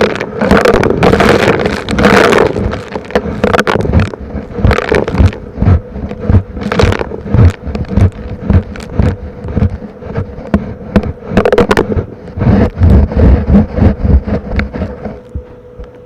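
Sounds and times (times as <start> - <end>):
grit rattling up a hose: 0.0 - 15.3
vacuum cleaner motor: 0.0 - 16.0.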